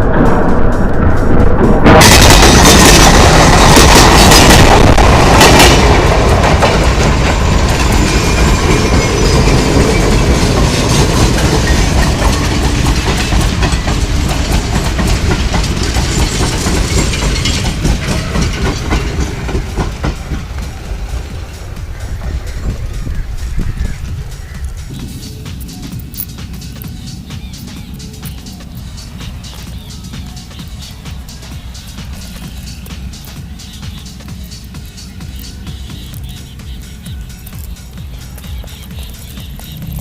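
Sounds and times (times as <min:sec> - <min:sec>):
train wheels clattering over rails: 0:00.0 - 0:40.0.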